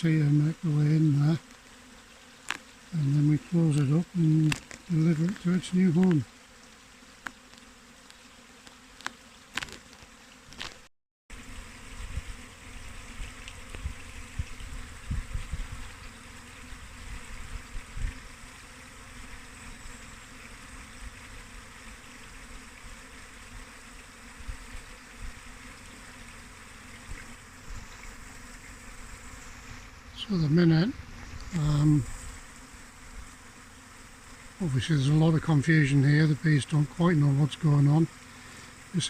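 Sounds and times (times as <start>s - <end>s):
honeybees buzzing: 0.0s - 39.0s.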